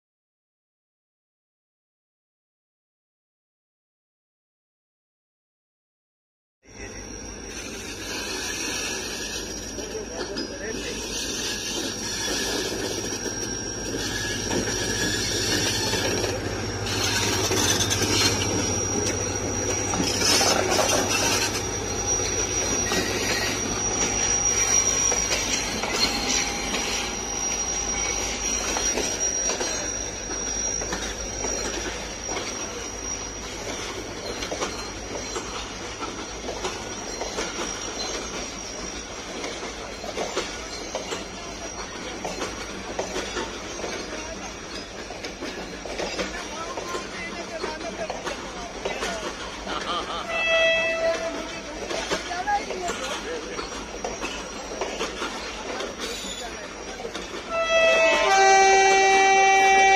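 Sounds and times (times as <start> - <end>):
high-pitched wheel squeal: 6.7 - 59.9
locomotive engine humming: 6.8 - 59.9
train wheels rumbling and clattering: 7.4 - 59.9.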